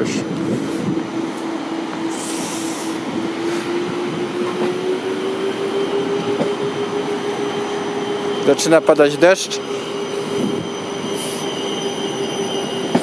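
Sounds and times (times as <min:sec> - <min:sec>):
train wheels rumbling: 0:00.0 - 0:13.0
train whine rising in pitch: 0:00.0 - 0:13.0.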